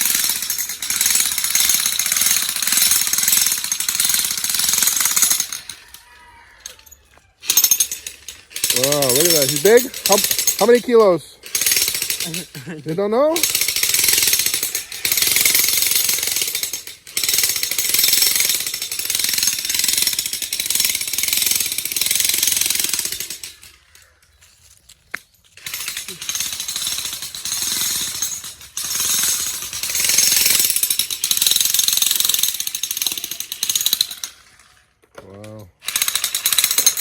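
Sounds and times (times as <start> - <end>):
jackhammer hammering: 0.0 - 6.0, 7.4 - 23.8, 25.6 - 34.4, 35.8 - 37.0.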